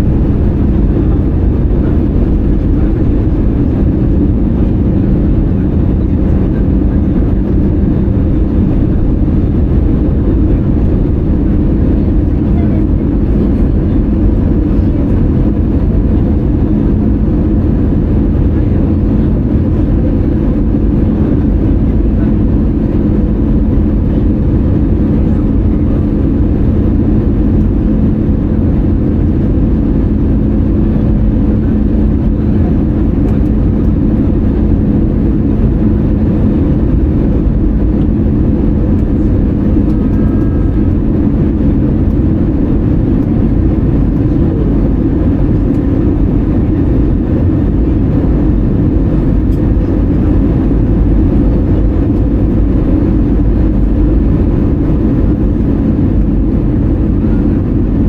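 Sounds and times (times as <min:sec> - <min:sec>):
airplane cabin engine rush: 0:00.0 - 0:58.0.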